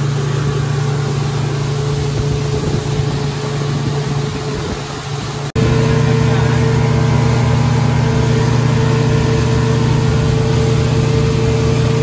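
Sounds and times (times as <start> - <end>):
outboard motor droning: 0.0 - 12.0
water rushing from wake: 0.0 - 12.0
wind: 0.0 - 12.0.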